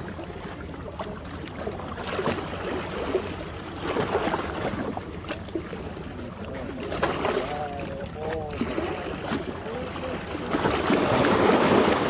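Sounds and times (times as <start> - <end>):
waves gurgling among rocks: 0.0 - 12.0.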